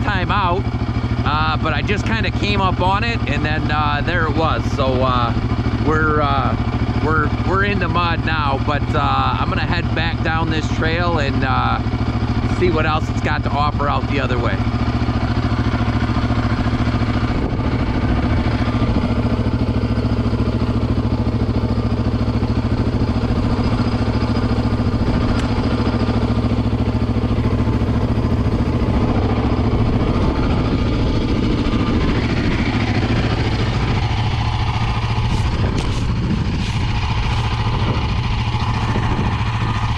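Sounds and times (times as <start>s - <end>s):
quad bike engine idling: 0.0s - 39.9s.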